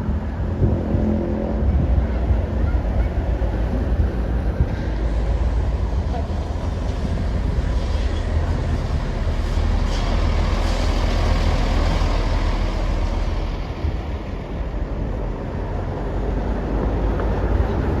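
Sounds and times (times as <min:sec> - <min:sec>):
bus engine rumble: 0:00.0 - 0:18.0
road noise: 0:00.0 - 0:18.0.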